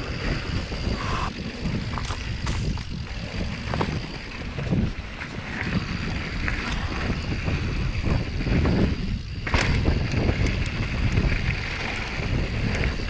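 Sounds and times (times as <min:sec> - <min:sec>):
bike tyres rumbling on dirt: 0:00.0 - 0:13.0
wind noise on microphone: 0:00.0 - 0:13.0
bike knocks and clicks: 0:01.6 - 0:13.0.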